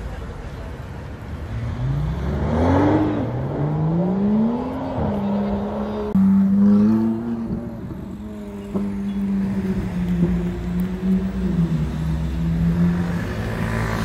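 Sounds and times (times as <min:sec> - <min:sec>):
sports car engine accelerating: 0:01.6 - 0:14.0.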